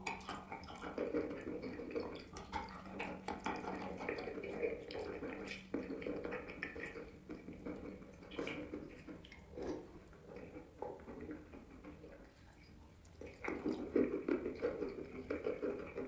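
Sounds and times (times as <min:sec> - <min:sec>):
wet squishy mouth sounds: 0:00.0 - 0:16.0.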